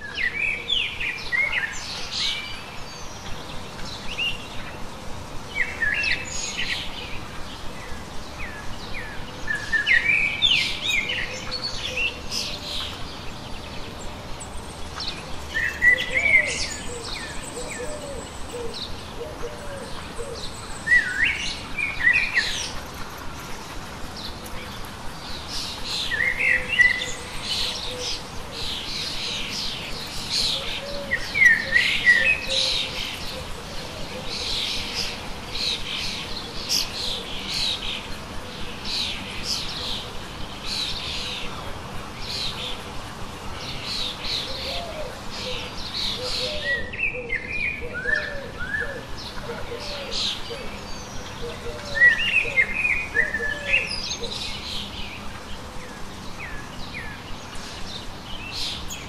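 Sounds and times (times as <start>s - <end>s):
birds chirping: 0.0s - 59.0s
steady outdoor hiss: 0.0s - 59.0s.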